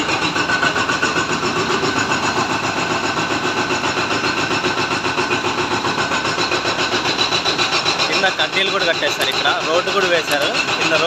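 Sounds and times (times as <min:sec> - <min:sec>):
engine running with throb: 0:00.0 - 0:11.0.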